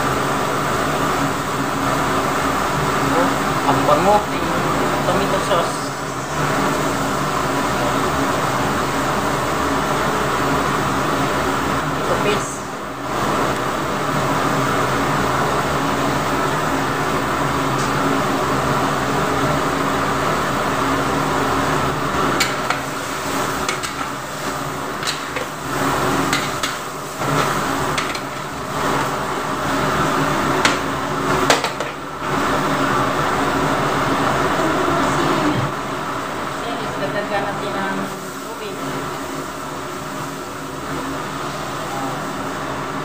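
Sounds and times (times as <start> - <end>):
steady background hum: 0.0 - 43.0.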